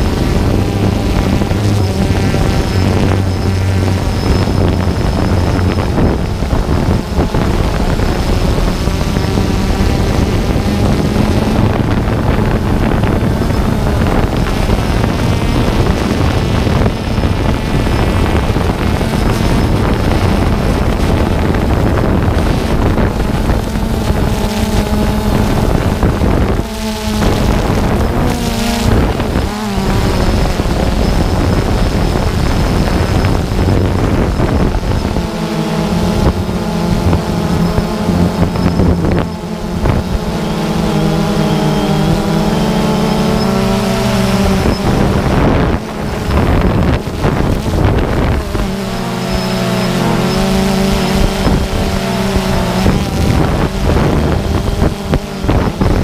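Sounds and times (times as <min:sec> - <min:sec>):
drone propellers buzzing: 0:00.0 - 0:56.0
wind on microphone: 0:00.0 - 0:56.0.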